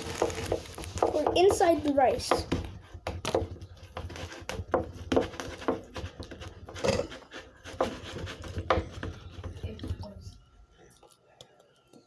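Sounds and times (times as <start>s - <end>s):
utensils knocking and scraping dish: 0.0s - 10.1s.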